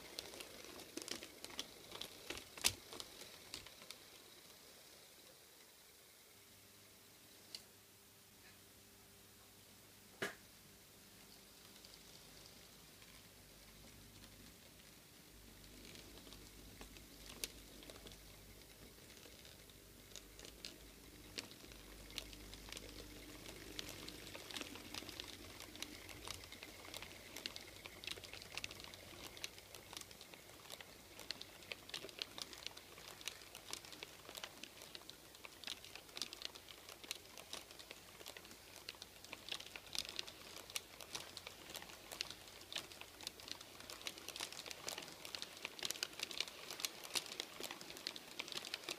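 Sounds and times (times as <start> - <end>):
model train wheels clicking: 0.0 - 6.2, 11.2 - 48.9
faint hum: 0.0 - 48.9.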